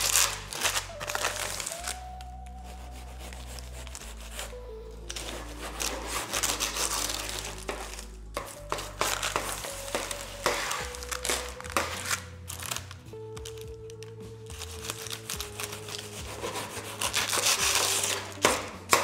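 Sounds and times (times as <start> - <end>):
parchment paper crinkling: 0.0 - 19.0
soft background music: 0.0 - 19.0.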